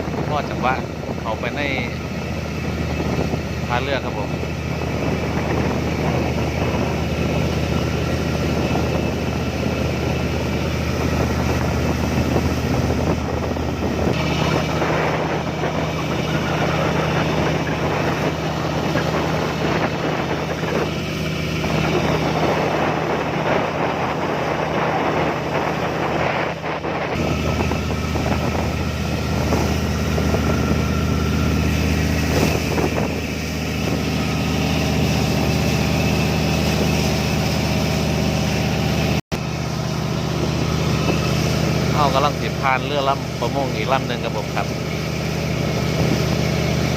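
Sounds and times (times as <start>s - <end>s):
boat engine droning: 0.0s - 46.9s
water noise: 0.0s - 46.9s
wind: 0.0s - 46.9s.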